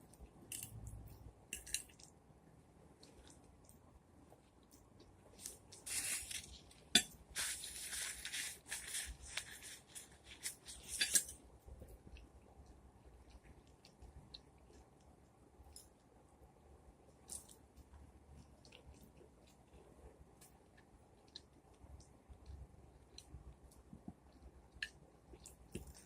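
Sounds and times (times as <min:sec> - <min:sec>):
crackly wet eating noise: 0:00.0 - 0:02.3, 0:02.9 - 0:26.0.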